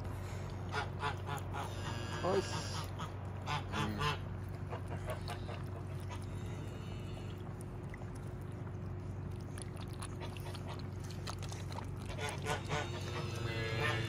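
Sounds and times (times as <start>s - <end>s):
cats lapping milk: 0.0s - 14.0s
steady low hum: 0.0s - 14.0s.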